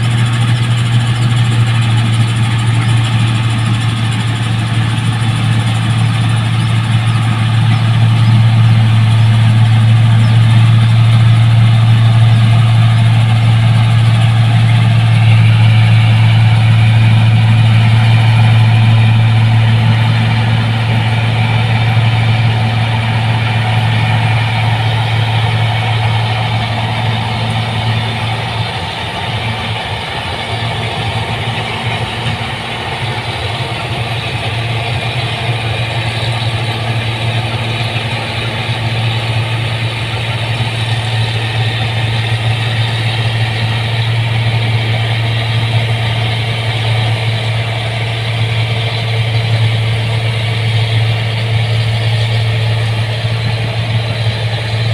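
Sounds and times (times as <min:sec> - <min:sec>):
diesel engine humming: 0:00.0 - 0:54.9.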